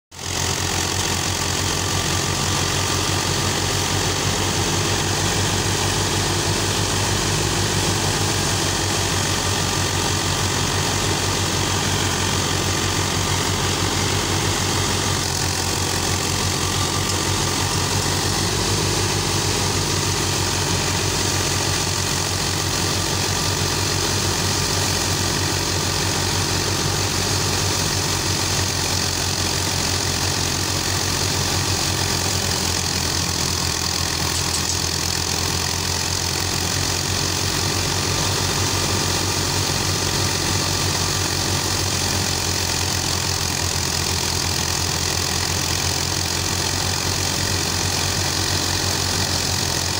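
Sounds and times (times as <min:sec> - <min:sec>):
tractor engine driving a thresher: 0:00.1 - 0:49.9.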